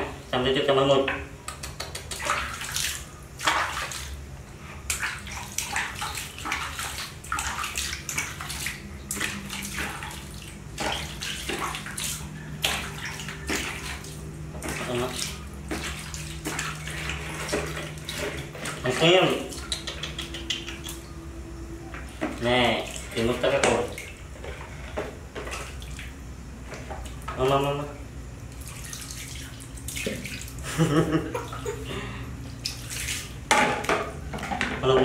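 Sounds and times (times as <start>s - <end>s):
steady low hum: 0.0s - 35.0s
water splashing and dripping: 1.5s - 4.2s, 4.8s - 21.2s, 22.0s - 24.3s, 25.4s - 27.7s, 28.4s - 34.6s.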